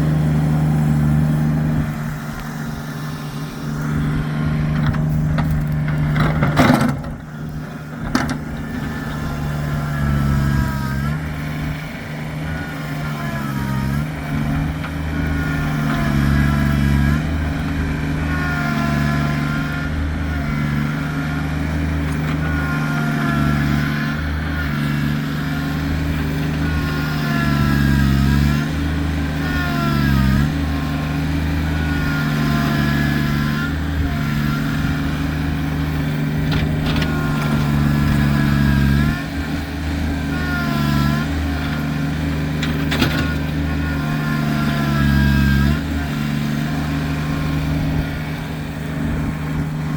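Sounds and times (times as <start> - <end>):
engine whine: 0.0 - 49.9
tractor diesel engine: 0.0 - 49.9.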